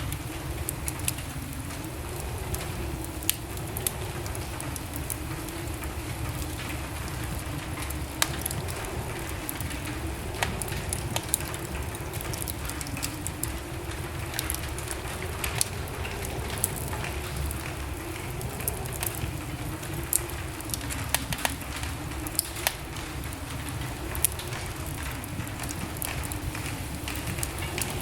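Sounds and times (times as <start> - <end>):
fire crackling and popping: 0.0 - 28.0
low rush of flames: 0.0 - 28.0.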